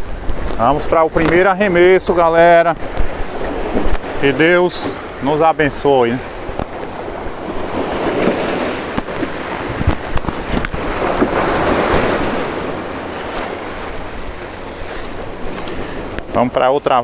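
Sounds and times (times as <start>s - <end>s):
wind buffeting microphone: 0.0s - 16.4s
sea surf on rocky shore: 0.0s - 17.0s.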